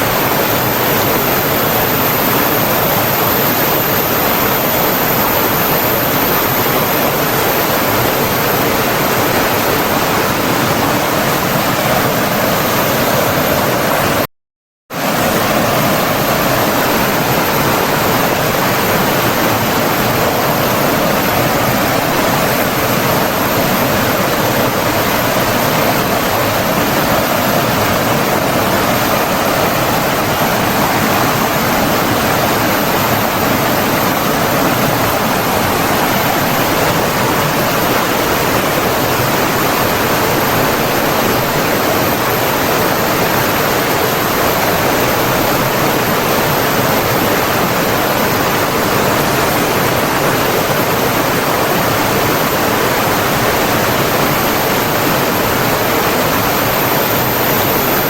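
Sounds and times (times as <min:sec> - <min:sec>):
flowing water rushing: 0:00.0 - 0:14.2, 0:15.0 - 0:58.0.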